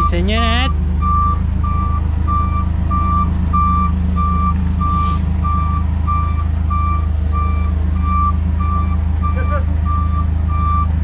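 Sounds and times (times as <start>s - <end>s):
forklift warning beeps: 0.0s - 11.0s.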